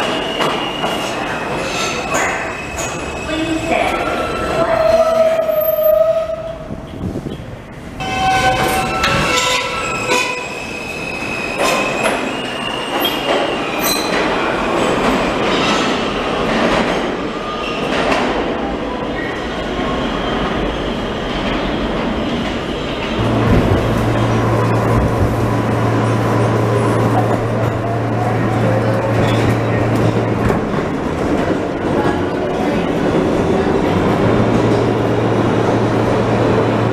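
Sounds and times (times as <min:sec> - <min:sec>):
subway train wheels rumbling: 0:00.0 - 0:36.9.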